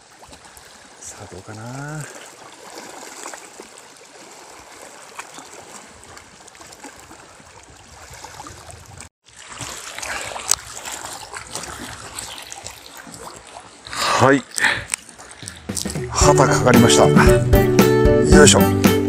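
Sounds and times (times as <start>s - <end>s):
waves lapping against boat hull: 0.0s - 16.4s.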